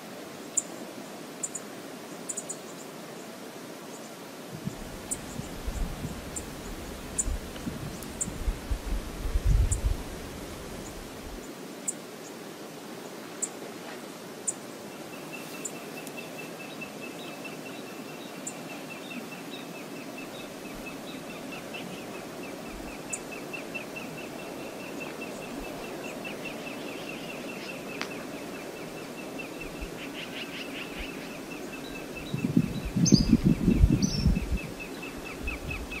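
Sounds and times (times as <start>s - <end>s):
wind: 0.0s - 36.0s.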